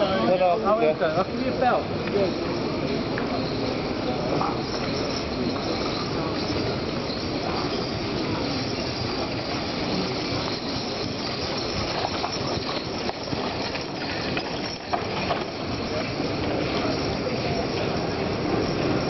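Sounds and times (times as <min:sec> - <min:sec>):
harness chains clinking: 0:00.0 - 0:19.0
wagon wheels rumbling and rattling: 0:00.0 - 0:19.0.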